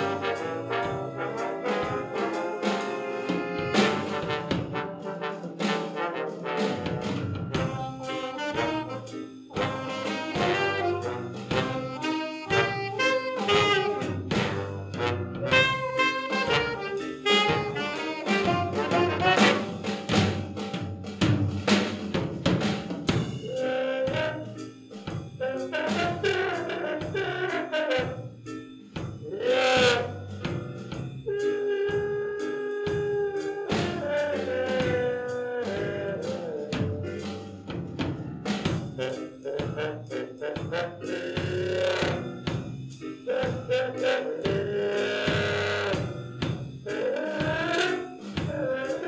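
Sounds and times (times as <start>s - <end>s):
swing big band playing: 0.0s - 49.0s.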